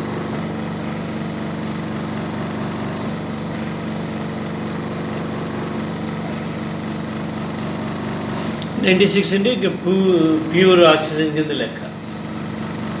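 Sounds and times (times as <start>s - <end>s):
air hissing: 0.0s - 10.7s
compressor humming: 0.0s - 13.0s.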